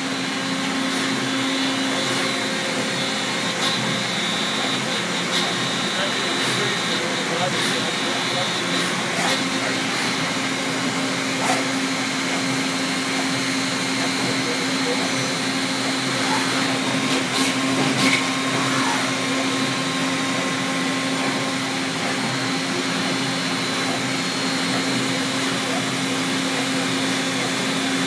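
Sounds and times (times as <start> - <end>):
machining center whirring hum: 0.0 - 28.0.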